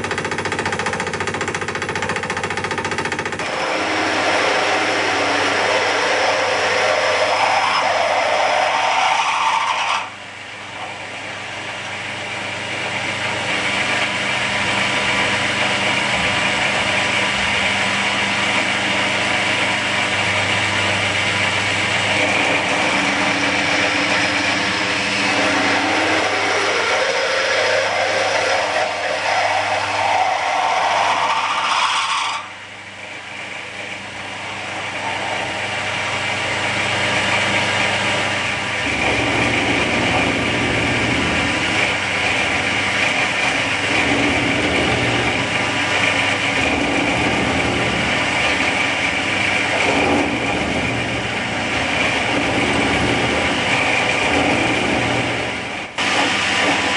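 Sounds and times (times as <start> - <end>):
milling machine cutting metal: 0.0 - 56.9
rising whine: 3.4 - 56.9.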